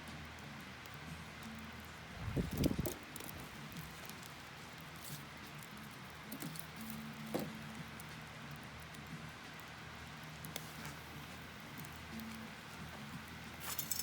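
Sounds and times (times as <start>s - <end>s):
wood fire crackling and popping: 0.1s - 14.0s.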